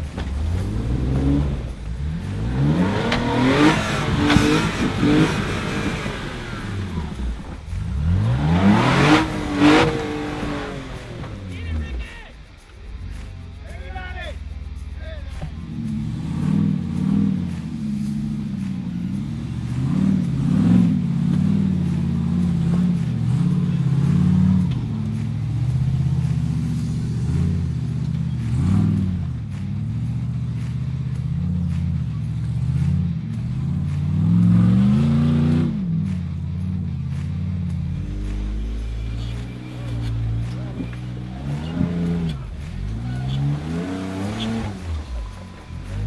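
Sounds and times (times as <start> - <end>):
engine revving: 0.0 - 46.0.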